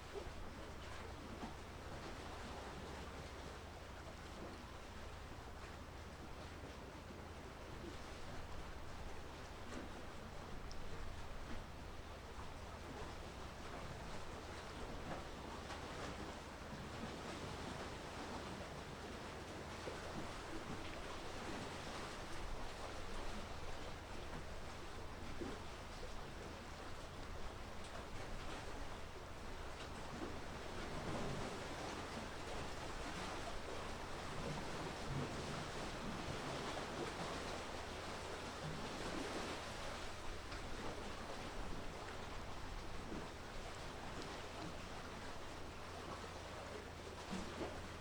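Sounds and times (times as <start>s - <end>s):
wind and water rushing: 8.0s - 48.0s.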